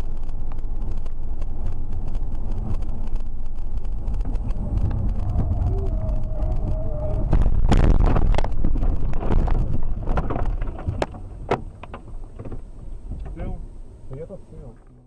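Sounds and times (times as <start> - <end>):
held whine: 0.0 - 14.9
road noise: 0.0 - 15.0.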